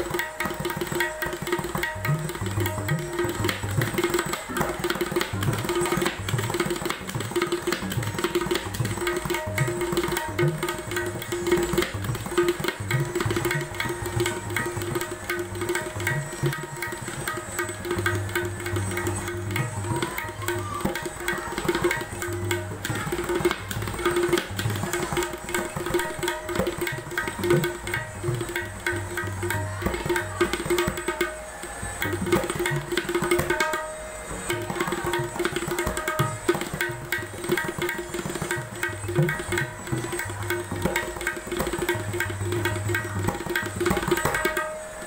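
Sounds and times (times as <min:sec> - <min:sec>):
tabla playing: 0:00.0 - 0:45.0.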